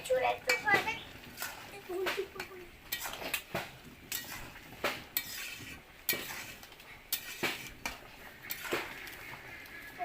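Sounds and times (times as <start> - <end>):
metal spoon scraping a pot: 0.4 - 10.0.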